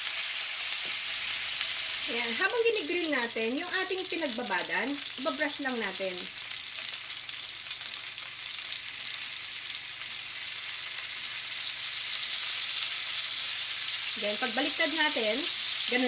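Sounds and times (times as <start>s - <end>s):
chicken sizzling on a grill pan: 0.0s - 16.0s.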